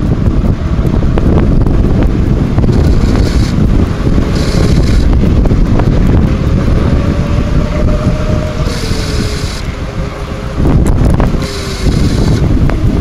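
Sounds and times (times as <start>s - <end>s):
tyres rolling on paved path: 0.0s - 13.0s
wind buffeting microphone: 0.0s - 13.0s.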